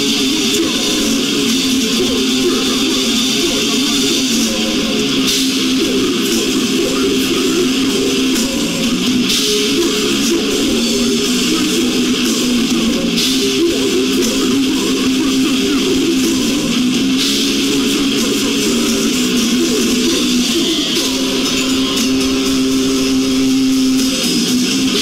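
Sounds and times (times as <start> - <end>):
bass guitar: 0.0 - 25.0
distorted electric guitar: 0.0 - 25.0
drums with cymbals: 0.0 - 25.0.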